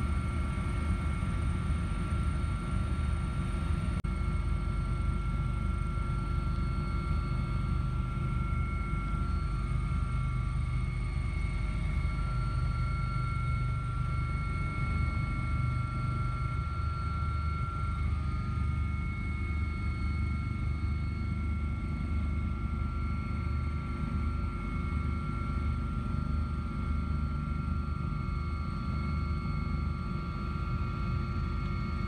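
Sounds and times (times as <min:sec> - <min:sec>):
helicopter rotor and engine rumble: 0:00.0 - 0:32.0
high turbine whine: 0:00.0 - 0:32.0.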